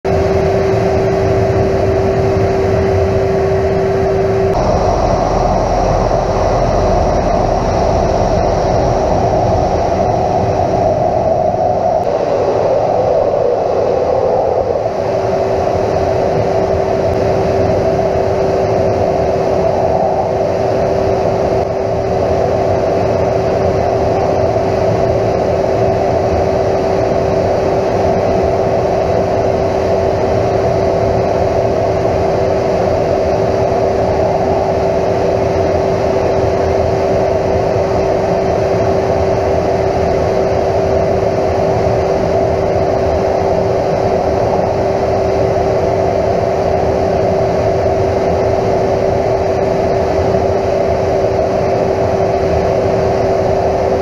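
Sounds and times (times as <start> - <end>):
jet engine and airflow rush: 0.0 - 54.0
steady hum: 0.0 - 54.0.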